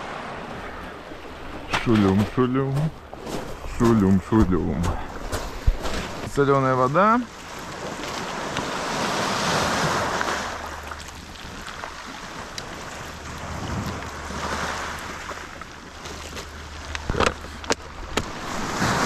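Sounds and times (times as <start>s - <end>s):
surf washing onto rocky shore: 0.0s - 19.0s.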